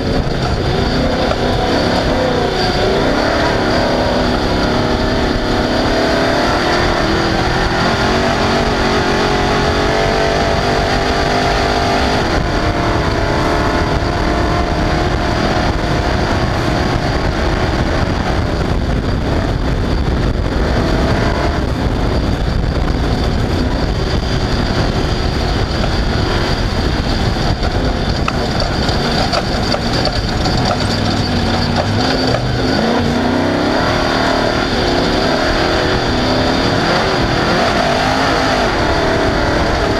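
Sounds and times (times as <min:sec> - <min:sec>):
constant heavy low noise: 0:00.0 - 0:39.9
race vehicle engine revving: 0:00.0 - 0:39.9.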